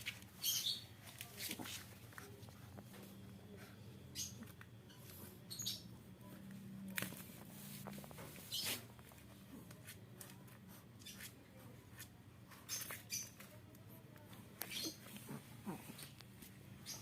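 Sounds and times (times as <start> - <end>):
faint scratches: 0.0 - 17.0.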